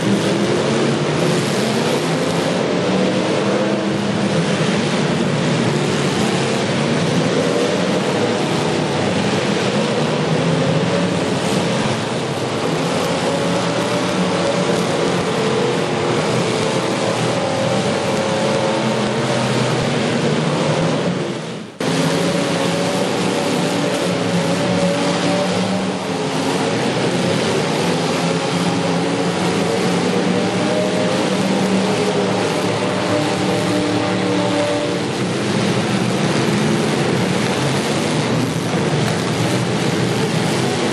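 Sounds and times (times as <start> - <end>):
car engines revving: 0.0 - 40.9
dense wash of noise: 0.0 - 40.9.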